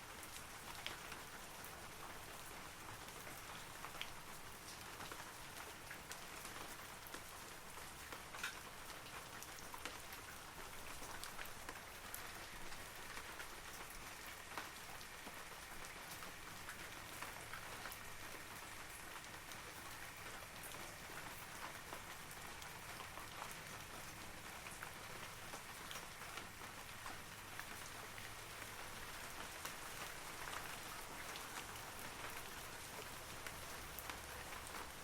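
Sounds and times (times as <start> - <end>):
rain on foliage: 0.0 - 35.0.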